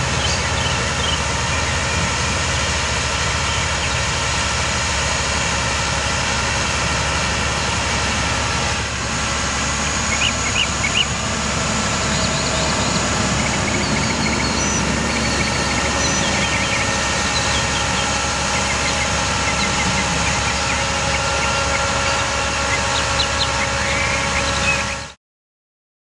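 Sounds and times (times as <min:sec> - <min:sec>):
birds chirping: 0:00.0 - 0:06.4, 0:09.3 - 0:25.2
diesel engine running: 0:00.0 - 0:25.2.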